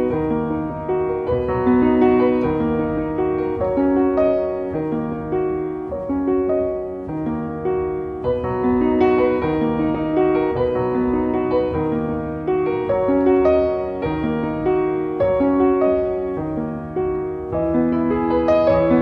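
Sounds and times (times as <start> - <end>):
calm piano music: 0.0 - 19.0.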